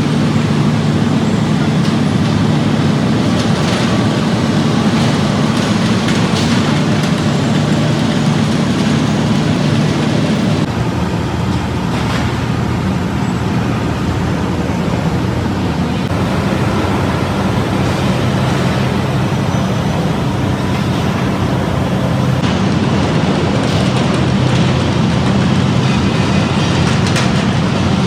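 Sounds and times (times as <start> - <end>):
heavy factory machinery din: 0.0 - 28.0.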